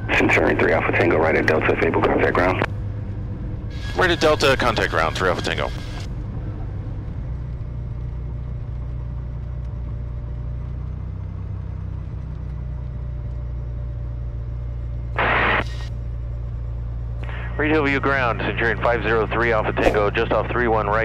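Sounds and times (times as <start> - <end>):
propeller plane engine droning: 0.0 - 21.0.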